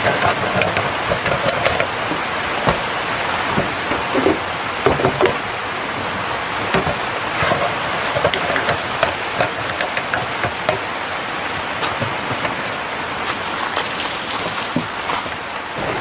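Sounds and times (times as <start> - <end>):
campfire crackling: 0.0 - 16.0
steady rain: 0.0 - 16.0.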